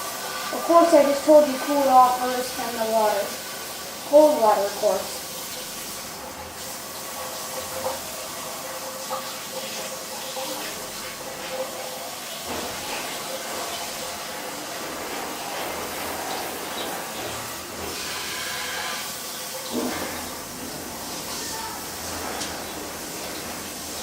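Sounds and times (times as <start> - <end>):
hot pan hissing with steam: 0.0 - 24.0
tap water running: 0.0 - 24.0.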